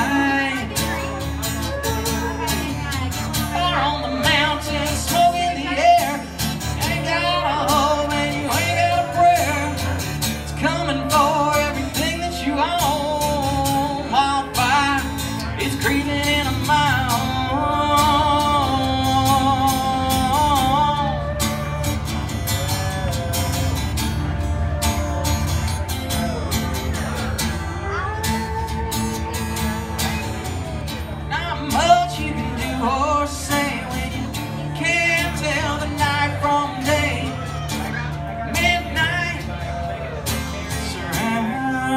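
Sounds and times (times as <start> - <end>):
pedal steel guitar: 0.0 - 41.9
strummed acoustic guitar: 0.0 - 41.9.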